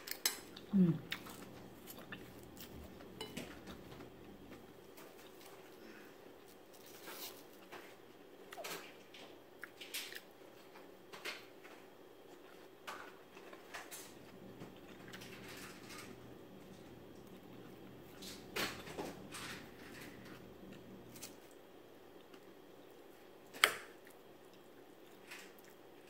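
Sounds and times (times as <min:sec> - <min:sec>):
crunching and chewing: 0:00.0 - 0:26.0
faint steady hum: 0:00.0 - 0:26.0.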